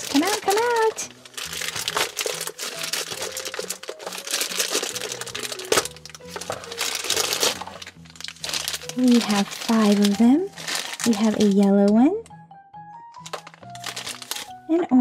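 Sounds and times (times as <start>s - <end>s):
plastic packaging crinkling: 0.0s - 12.4s, 13.1s - 14.7s
soft background music: 0.0s - 15.0s.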